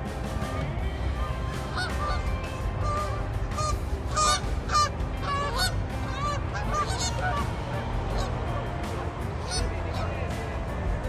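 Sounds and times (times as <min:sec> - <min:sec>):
steady low rumble: 0:00.0 - 0:11.0
geese honking: 0:01.1 - 0:10.7.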